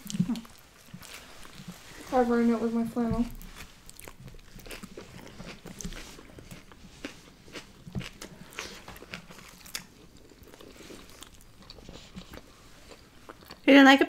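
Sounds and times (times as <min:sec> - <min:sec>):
people chewing food: 0:00.0 - 0:14.0.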